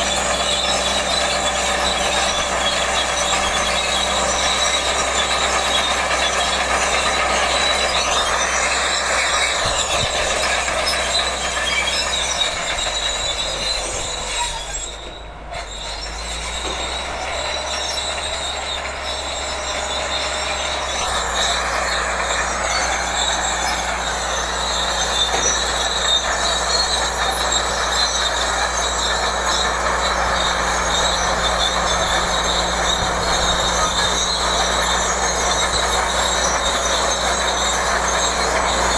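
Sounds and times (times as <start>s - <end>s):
diesel engine running: 0.0s - 38.9s
steel tracks clanking and squealing: 0.0s - 38.9s.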